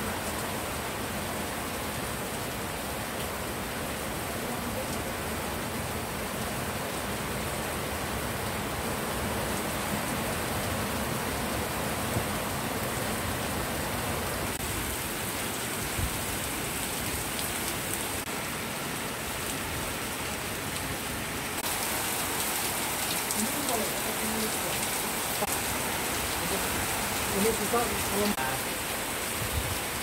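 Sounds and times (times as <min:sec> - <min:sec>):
rain on plants and paving: 0:00.0 - 0:30.0.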